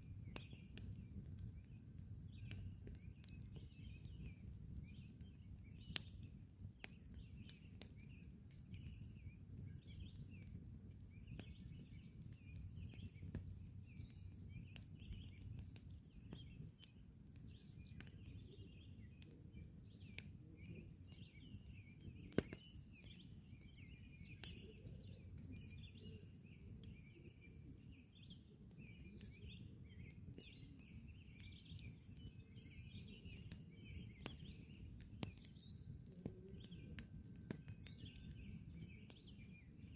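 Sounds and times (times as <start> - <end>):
campfire crackling and popping: 0.0 - 39.9
birds chirping: 0.1 - 39.9.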